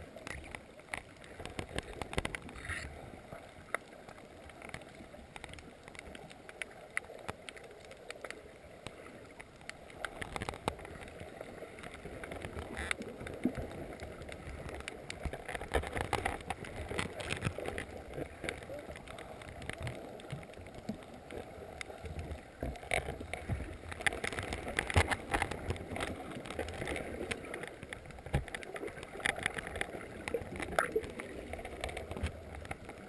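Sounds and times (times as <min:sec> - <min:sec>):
scattered sharp clicks and crackles: 0:00.0 - 0:33.0
underwater rush of water: 0:00.0 - 0:33.0.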